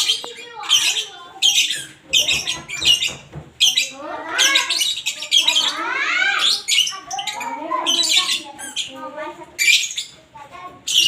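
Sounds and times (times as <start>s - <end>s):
lovebird chirping: 0.0s - 10.2s.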